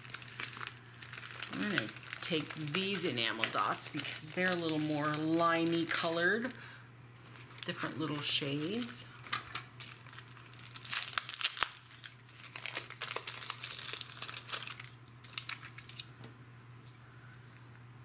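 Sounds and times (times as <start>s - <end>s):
plastic packet crinkling: 0.0s - 6.6s, 7.2s - 16.2s.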